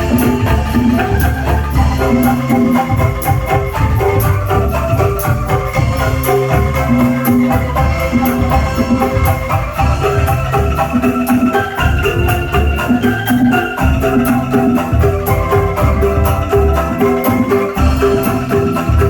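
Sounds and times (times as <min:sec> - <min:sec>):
bamboo angklung melody: 0:00.0 - 0:19.0.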